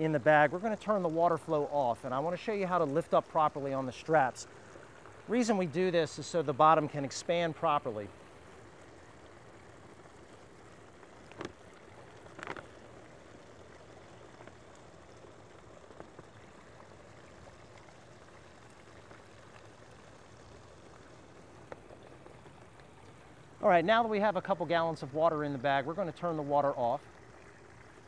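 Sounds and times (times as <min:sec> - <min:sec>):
hose water flowing into bag: 0:00.0 - 0:28.0.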